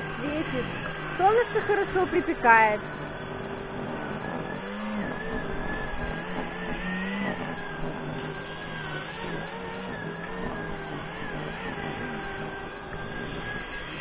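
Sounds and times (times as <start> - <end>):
grass trimmer running: 0.0 - 14.0.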